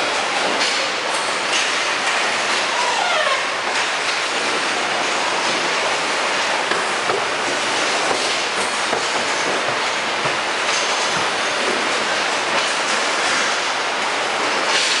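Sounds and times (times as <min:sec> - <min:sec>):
assembly line machinery hiss and rumble: 0:00.0 - 0:15.0.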